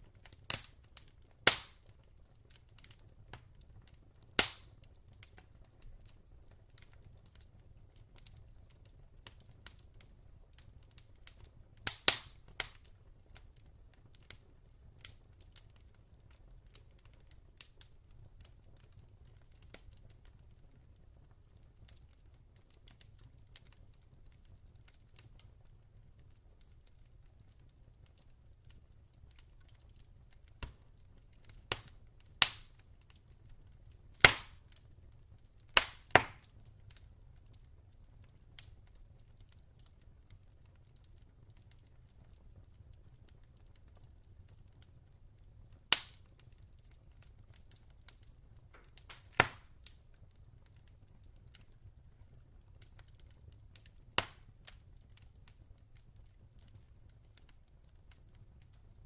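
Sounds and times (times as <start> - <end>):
log fire crackling and popping: 0.0 - 59.0.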